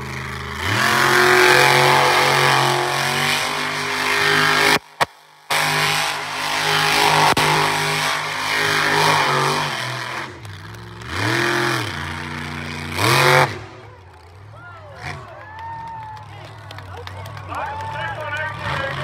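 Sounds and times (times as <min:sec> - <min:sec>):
truck engine revving: 0:00.0 - 0:15.5, 0:16.2 - 0:19.0.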